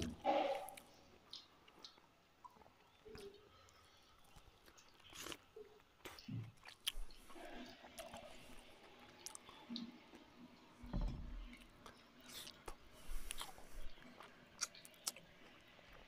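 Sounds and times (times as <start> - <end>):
man chewing food: 0.0 - 16.0.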